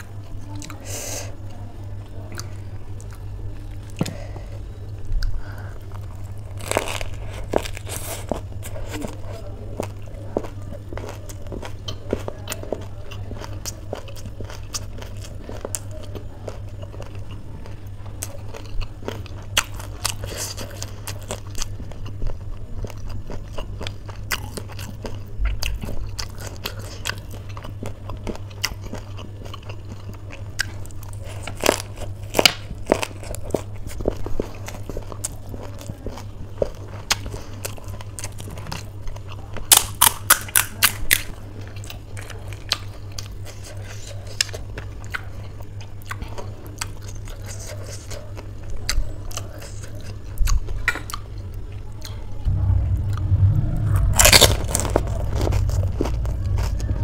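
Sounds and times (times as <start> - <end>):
low steady hum: 0.0 - 40.2, 41.0 - 57.0
chewing and crunching: 0.0 - 53.4, 54.0 - 57.0.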